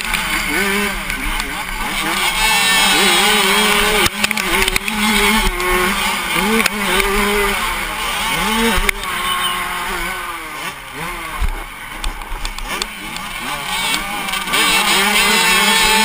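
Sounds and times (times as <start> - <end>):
motocross bike engine revving: 0.0 - 16.0
other dirt bikes: 0.0 - 16.0.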